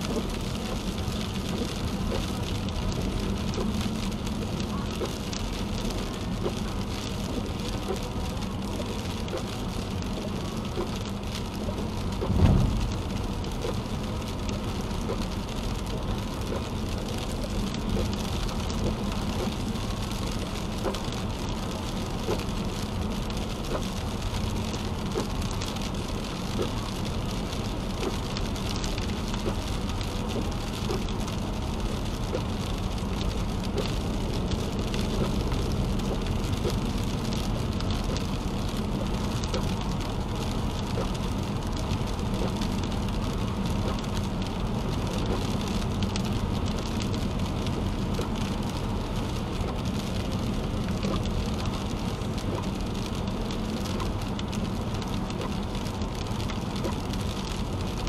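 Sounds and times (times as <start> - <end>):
low road drone: 0.0 - 58.0
rain spattering on windshield: 0.0 - 58.0
tyres hissing on wet pavement: 0.0 - 58.0.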